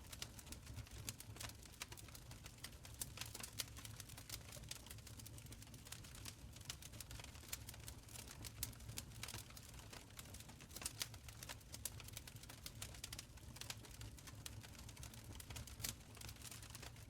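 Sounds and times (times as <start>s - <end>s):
soft low rumble of flames: 0.0s - 17.0s.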